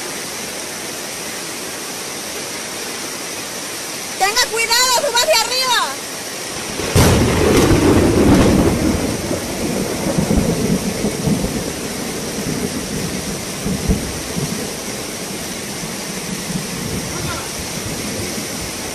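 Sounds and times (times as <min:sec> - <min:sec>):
floodwater rushing: 0:00.0 - 0:18.9
heavy rain: 0:00.0 - 0:18.9.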